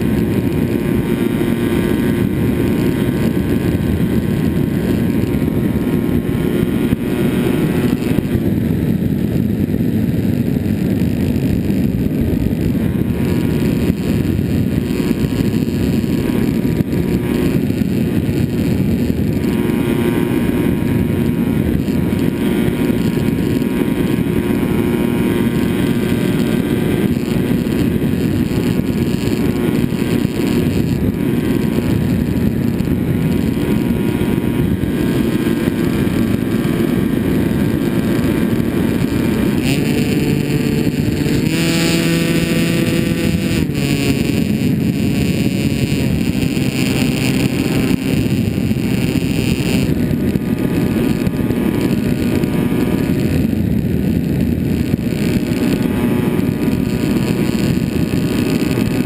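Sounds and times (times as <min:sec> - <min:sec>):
air rushing over microphone: 0:00.0 - 0:59.0
model plane motor and propeller: 0:00.0 - 0:59.0.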